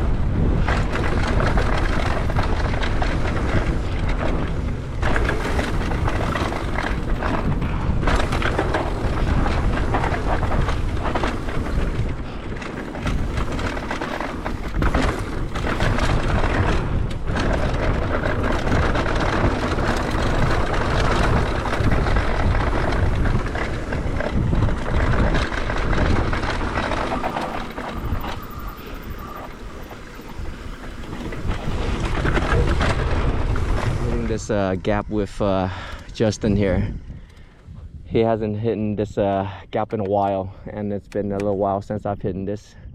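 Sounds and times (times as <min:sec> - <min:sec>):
tyres on dirt: 0:00.0 - 0:40.5
bike knocking and rattling: 0:00.0 - 0:42.2
wind buffeting microphone: 0:00.0 - 0:42.9.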